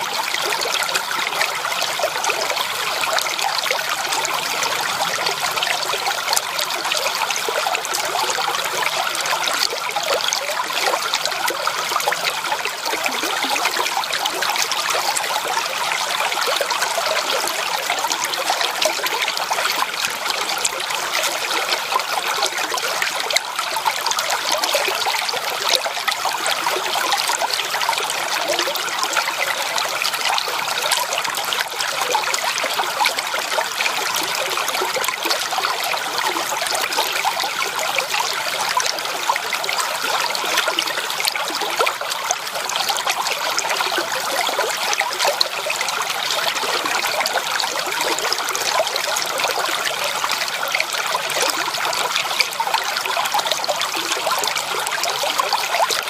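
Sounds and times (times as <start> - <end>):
creek water babbling over stones: 0.0 - 56.0.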